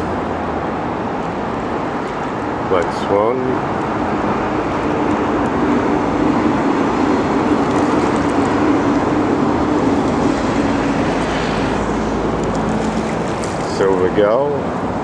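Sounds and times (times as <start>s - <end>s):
engine droning hum: 0.0s - 15.0s.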